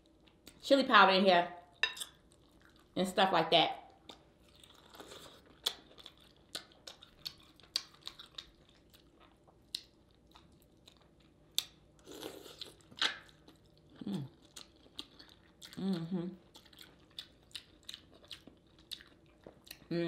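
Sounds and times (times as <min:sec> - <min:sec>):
chewing with wet smacking: 0:02.0 - 0:03.0, 0:03.9 - 0:19.9.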